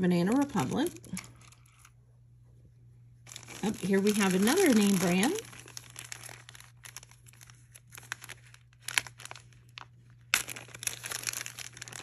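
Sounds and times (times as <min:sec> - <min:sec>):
plastic packaging crinkling: 0:00.0 - 0:02.0, 0:03.2 - 0:12.0.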